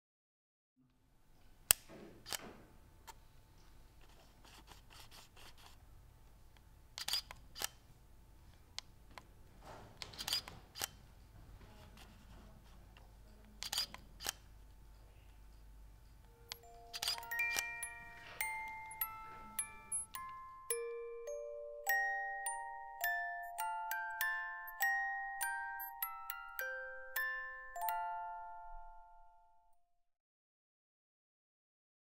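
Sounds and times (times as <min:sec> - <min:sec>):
quiet room hum: 0:00.8 - 0:29.8.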